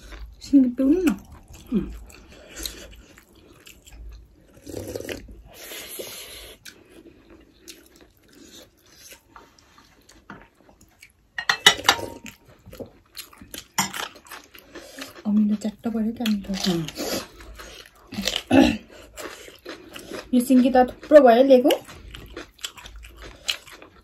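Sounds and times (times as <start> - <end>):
chewing and mouth noises: 0.0 - 24.0.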